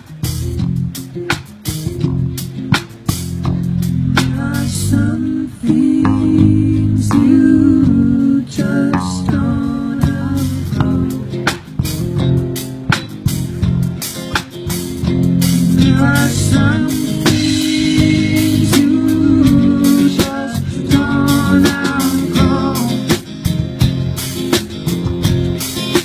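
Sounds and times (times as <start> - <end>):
drum and cymbal hits: 0.0 - 26.0
live band playing: 0.0 - 26.0.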